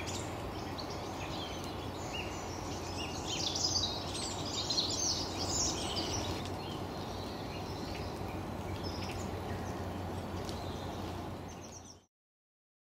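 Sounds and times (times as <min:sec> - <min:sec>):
birds twittering: 0:00.0 - 0:12.1.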